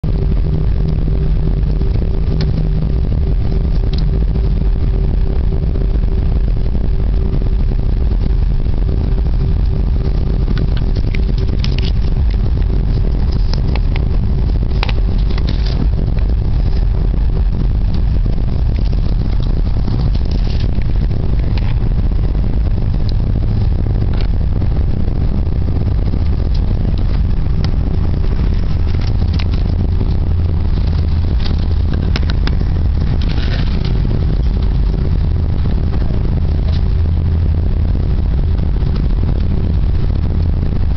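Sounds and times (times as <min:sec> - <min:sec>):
aircraft engines rumbling: 0:00.0 - 0:40.9
thin steady whine: 0:00.0 - 0:40.9.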